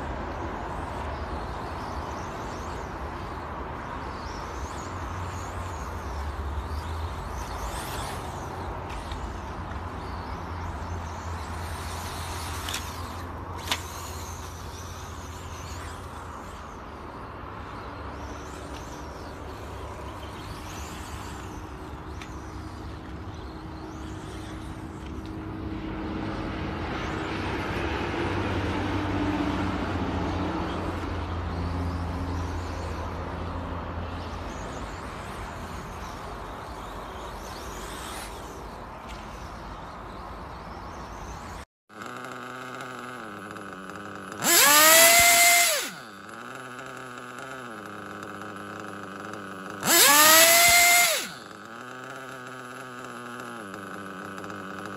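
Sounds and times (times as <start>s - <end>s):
model car motors whining: 0.0s - 27.7s, 30.7s - 54.9s.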